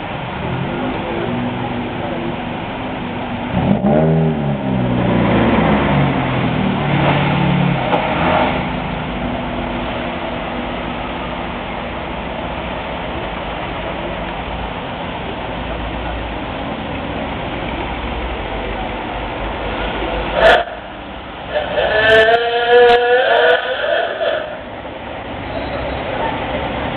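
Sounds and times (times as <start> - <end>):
car engines driving past: 0.0 - 26.9.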